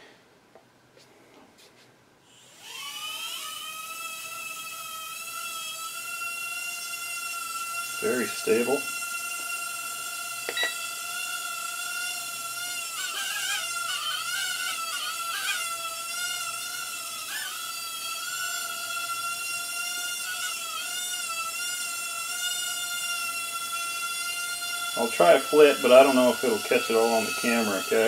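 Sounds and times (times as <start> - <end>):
quadcopter motors whining: 2.3 - 28.0.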